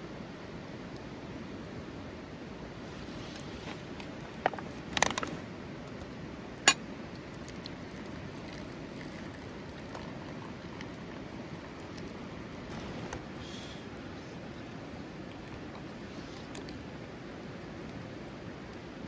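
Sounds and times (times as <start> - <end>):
steady low background noise: 0.0 - 19.0.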